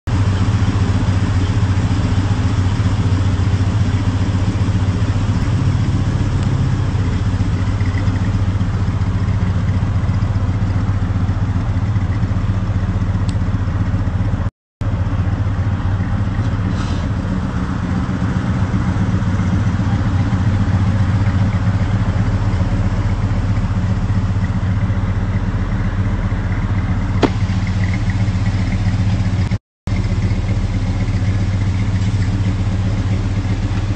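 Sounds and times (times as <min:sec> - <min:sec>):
pickup engine idling: 0:00.1 - 0:33.9.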